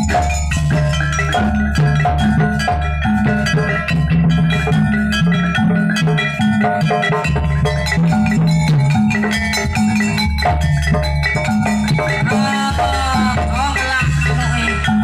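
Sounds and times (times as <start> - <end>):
bass line: 0.0 - 15.0
drums: 0.0 - 15.0
tuned metal percussion: 0.0 - 15.0.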